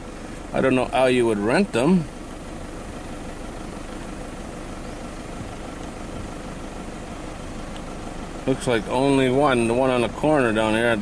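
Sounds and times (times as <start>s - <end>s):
car engine: 0.0s - 11.0s
road noise: 0.0s - 11.0s.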